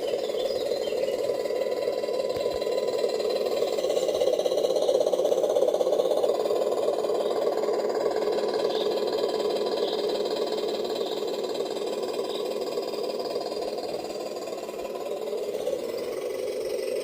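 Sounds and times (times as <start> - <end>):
remote control car motor drone: 0.0 - 17.0.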